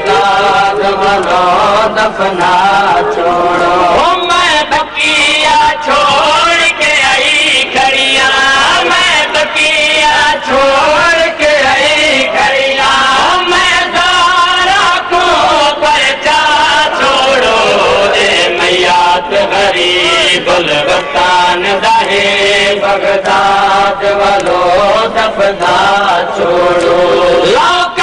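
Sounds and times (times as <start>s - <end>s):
man chanting a lament: 0.0s - 28.0s.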